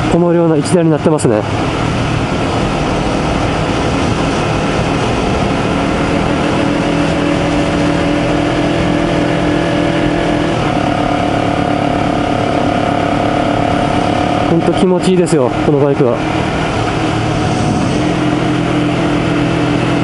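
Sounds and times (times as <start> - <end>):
motorcycle engine running: 0.0 - 20.0
wind rush: 0.0 - 20.0.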